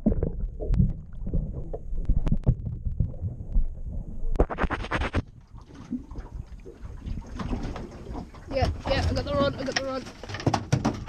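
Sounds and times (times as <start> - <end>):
muffled underwater sloshing: 0.0 - 4.4, 5.0 - 10.3
water splashing: 0.0 - 10.3.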